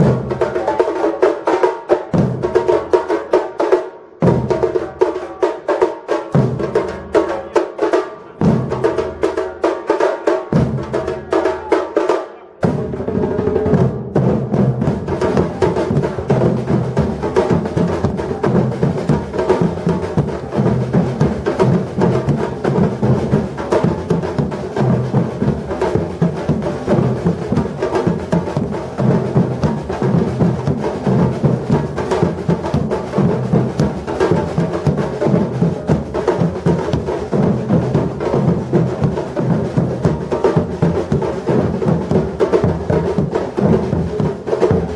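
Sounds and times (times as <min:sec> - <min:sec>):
drum group playing: 0:00.0 - 0:44.9.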